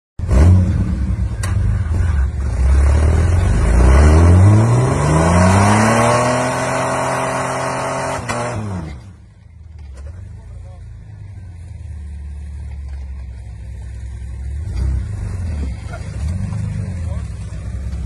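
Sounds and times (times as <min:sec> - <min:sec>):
car engine revving under load: 0:00.2 - 0:18.0.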